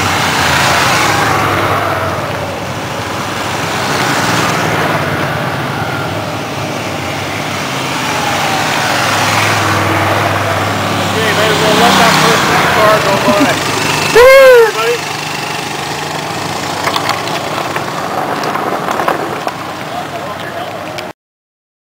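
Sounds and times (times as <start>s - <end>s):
small motorcycle engines running: 0.0s - 21.1s.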